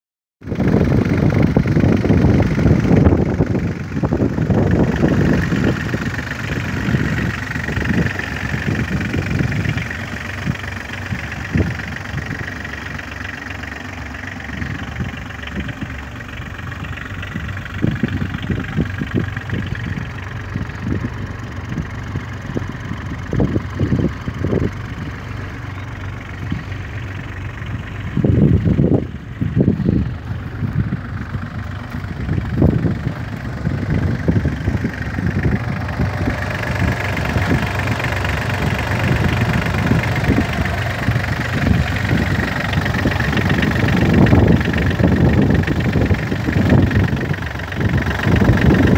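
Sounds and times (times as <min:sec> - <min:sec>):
diesel engines idling: 0:00.4 - 0:48.9.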